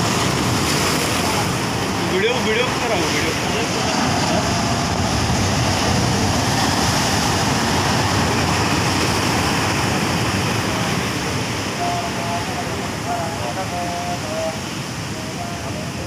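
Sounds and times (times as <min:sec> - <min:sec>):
waves breaking on rocks: 0:00.0 - 0:16.0.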